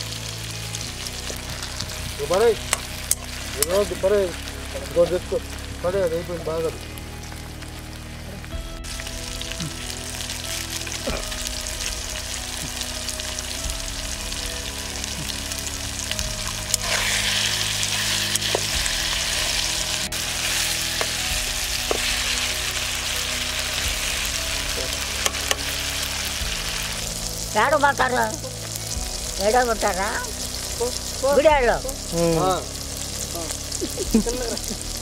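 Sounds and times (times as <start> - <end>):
vegetables sizzling in hot oil: 0.0 - 35.0.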